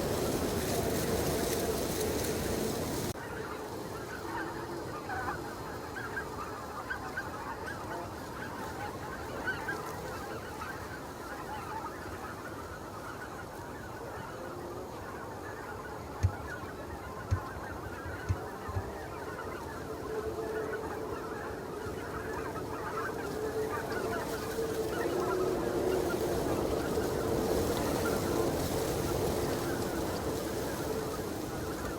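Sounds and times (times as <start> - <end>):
geese honking: 0.0 - 31.9.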